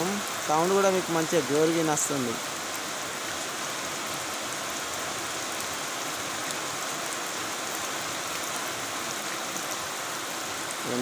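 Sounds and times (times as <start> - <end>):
heavy rain on concrete: 0.0 - 11.0.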